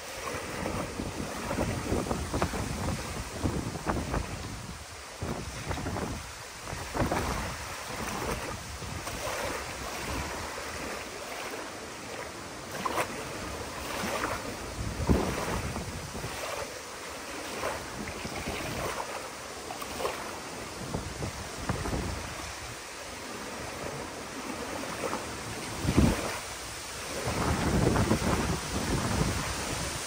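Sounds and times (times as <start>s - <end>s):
wind rumble on microphone: 0.0s - 19.2s, 19.8s - 30.0s
waves lapping on a shore: 0.0s - 30.0s.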